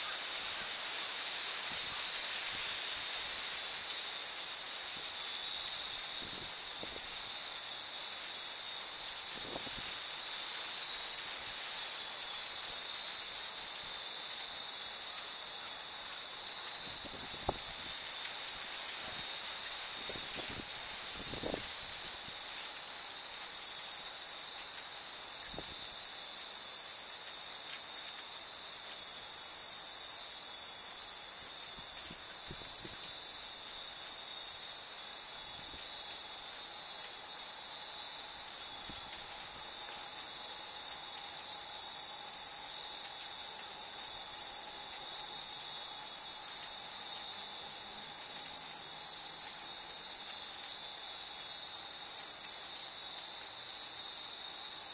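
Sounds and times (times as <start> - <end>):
insects singing in trees: 0.0 - 54.9.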